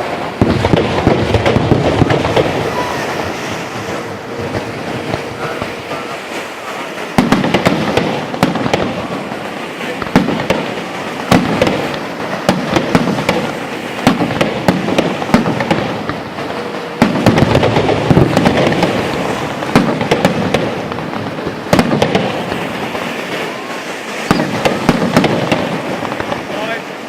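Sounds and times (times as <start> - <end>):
firework shells bursting: 0.0 - 27.0
fireworks crackling: 0.0 - 27.0.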